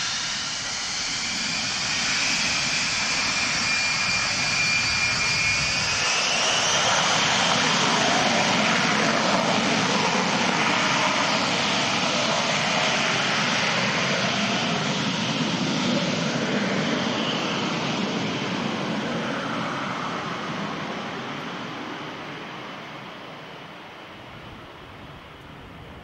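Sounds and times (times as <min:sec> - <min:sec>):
jet engine roar: 0:00.0 - 0:26.0
jet engine whine: 0:00.0 - 0:26.0.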